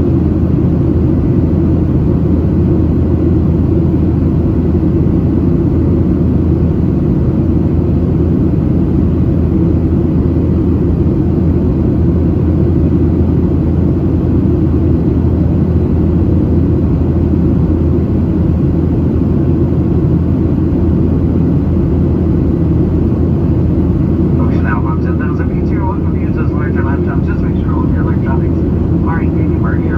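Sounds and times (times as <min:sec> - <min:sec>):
airplane cabin rumble: 0:00.0 - 0:29.9
jet engines droning: 0:00.0 - 0:29.9.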